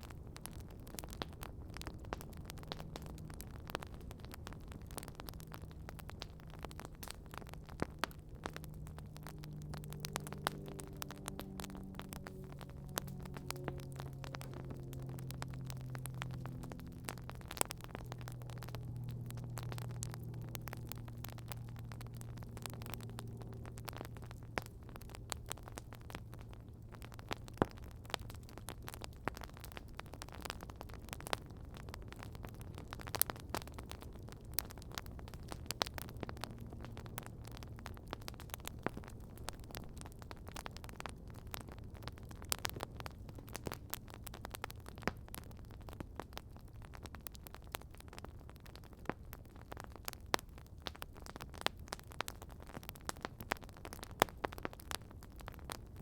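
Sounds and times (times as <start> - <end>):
faint low hum: 0.0 - 46.2
campfire crackling: 0.0 - 56.0.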